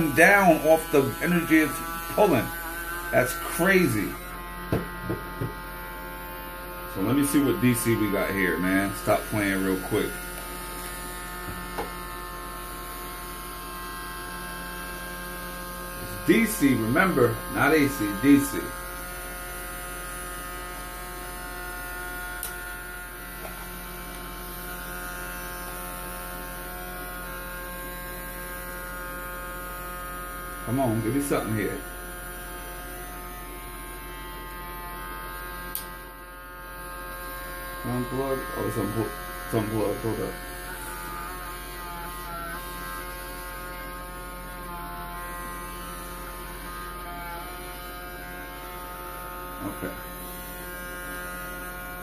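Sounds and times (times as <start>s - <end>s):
electrical hum: 0.0s - 52.0s.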